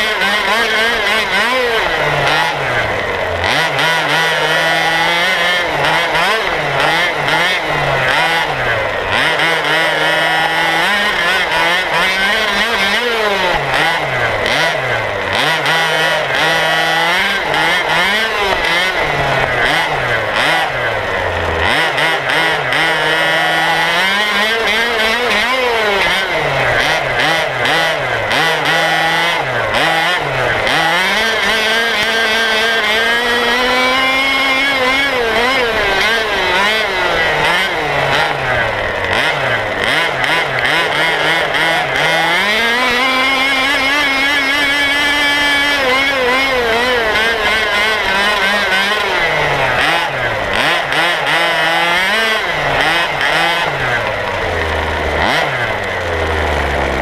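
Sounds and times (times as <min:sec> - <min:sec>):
rc buggy two-stroke engine revving: 0:00.0 - 0:57.0.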